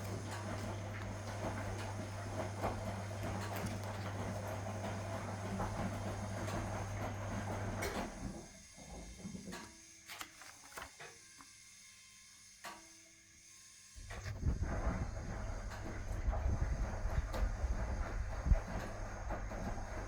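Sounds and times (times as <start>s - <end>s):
washing machine motor hum: 0.0s - 11.0s, 14.0s - 20.0s.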